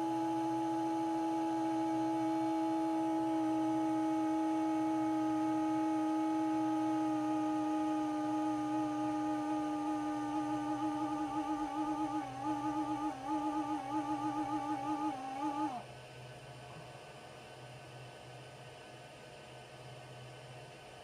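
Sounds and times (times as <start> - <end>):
humming whistle from vent: 0.0 - 21.0.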